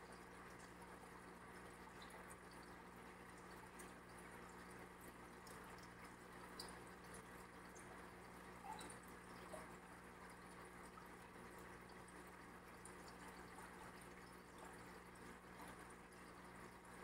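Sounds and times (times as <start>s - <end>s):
aquarium bubbling water: 0.0s - 17.0s
filter pump electrical hum: 0.0s - 17.0s.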